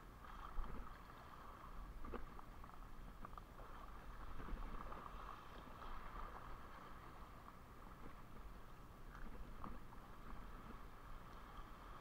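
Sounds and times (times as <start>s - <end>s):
seawater lapping over rocks: 0.0s - 12.0s.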